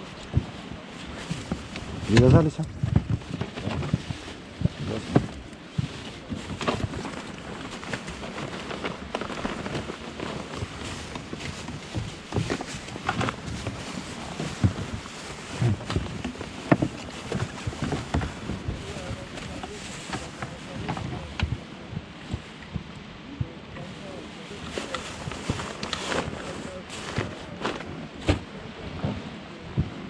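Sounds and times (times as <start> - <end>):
water around boat: 0.0 - 30.0
wind: 0.0 - 30.0.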